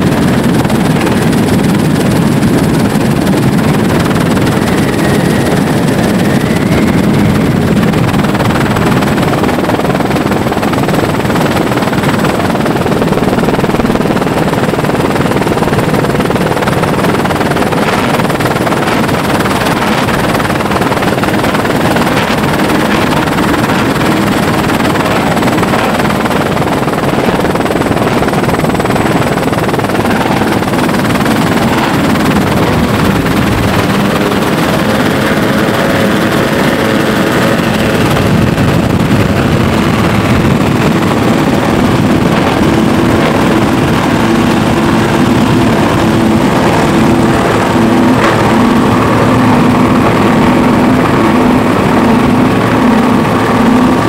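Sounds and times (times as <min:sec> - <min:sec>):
helicopter rotor and turbine roar: 0:00.0 - 0:54.0
powerboat engines running flat out: 0:00.0 - 0:54.0.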